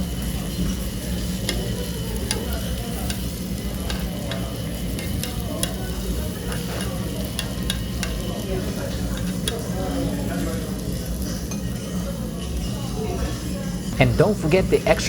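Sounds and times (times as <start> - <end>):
batter sizzling on a griddle: 0.0 - 14.0.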